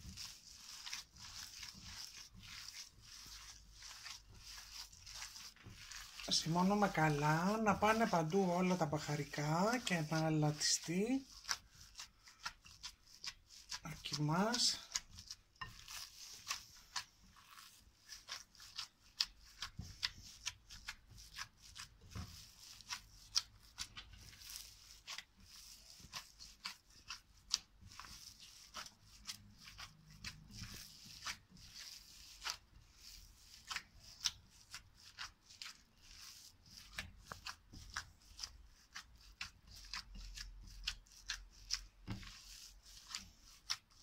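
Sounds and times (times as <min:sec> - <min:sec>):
hands kneading minced meat: 0:00.0 - 0:44.0.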